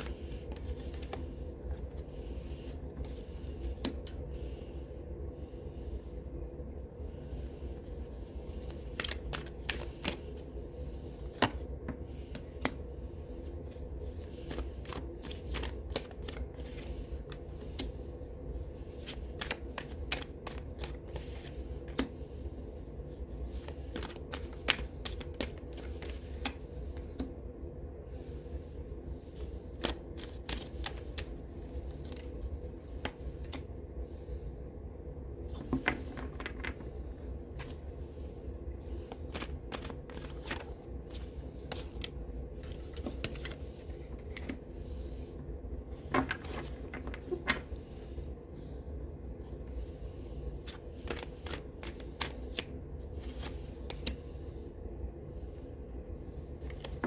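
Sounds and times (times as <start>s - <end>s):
cards being shuffled: 0.0s - 4.3s, 7.7s - 27.4s, 29.1s - 34.3s, 35.4s - 45.2s, 45.8s - 48.8s, 49.4s - 54.5s, 56.4s - 57.0s.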